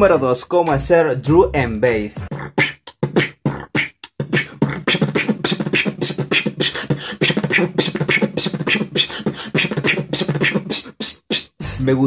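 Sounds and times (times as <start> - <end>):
beatboxing: 0.0 - 12.0.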